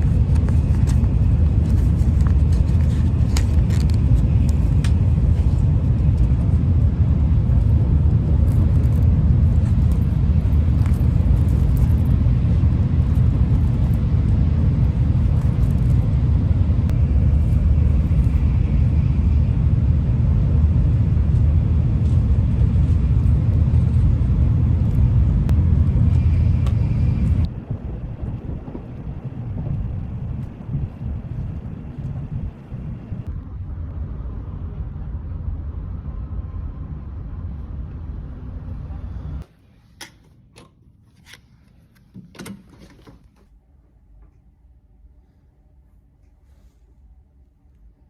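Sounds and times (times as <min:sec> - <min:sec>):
rushing noise: 0:00.0 - 0:38.5
vehicle rumble: 0:00.0 - 0:39.8.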